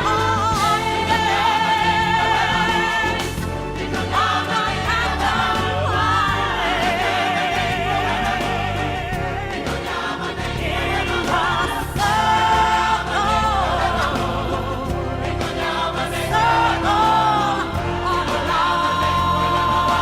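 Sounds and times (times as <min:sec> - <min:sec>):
choir singing: 0:00.0 - 0:20.0
low steady accompaniment: 0:00.0 - 0:20.0.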